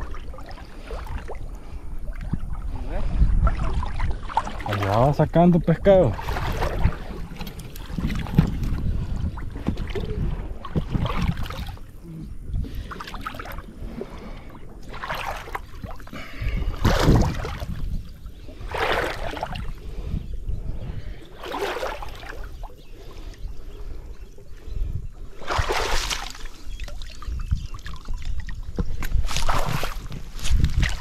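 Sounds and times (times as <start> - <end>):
water splashing and sloshing: 0.0 - 31.0
wind rumble on microphone: 0.0 - 31.0.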